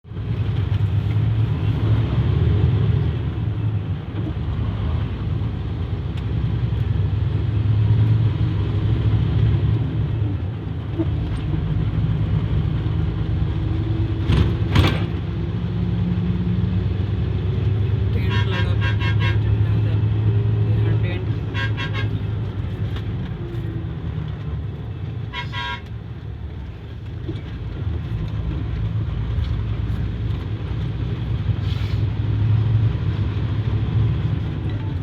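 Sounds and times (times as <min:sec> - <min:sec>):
motor vehicle low rumble: 0:00.0 - 0:35.0.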